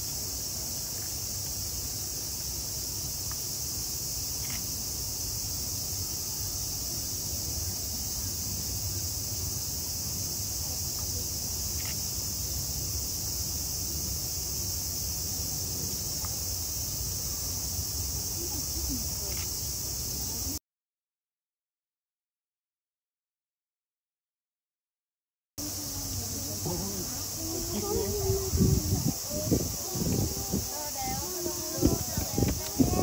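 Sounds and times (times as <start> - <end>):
cicadas buzzing: 0.0 - 20.6, 25.6 - 33.0.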